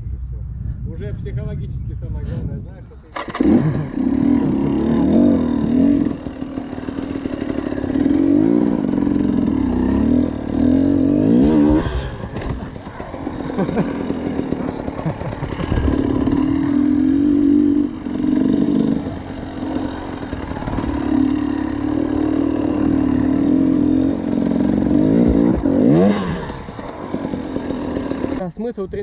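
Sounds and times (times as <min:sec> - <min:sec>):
motorcycle engine revving: 0:03.0 - 0:28.5.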